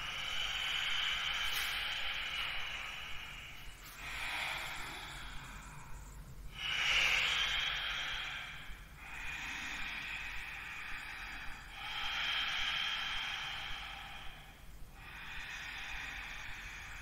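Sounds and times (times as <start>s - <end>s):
slow deep breathing: 0.0s - 17.0s.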